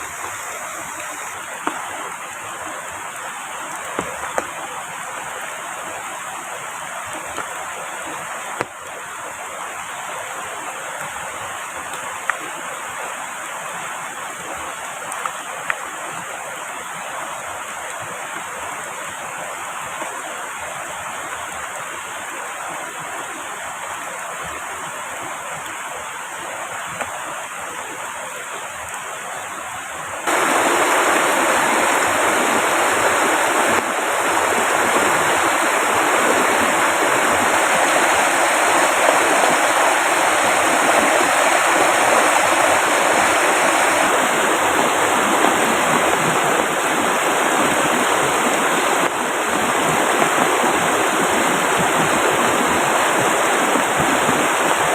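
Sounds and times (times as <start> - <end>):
rushing water: 0.0 - 54.9.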